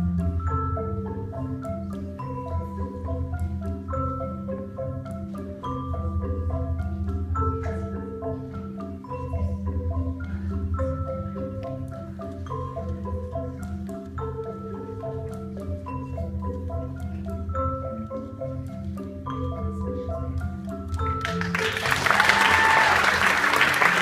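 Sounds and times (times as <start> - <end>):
marimba music with bass line: 0.0 - 24.0.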